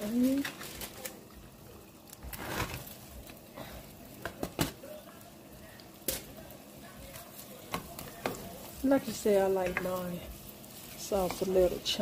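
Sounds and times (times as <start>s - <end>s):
butter sizzling in a pot: 0.0s - 12.0s.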